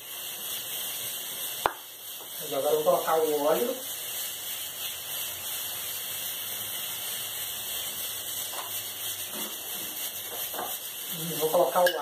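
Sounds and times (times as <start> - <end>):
cooking oil sizzling: 0.0 - 12.0.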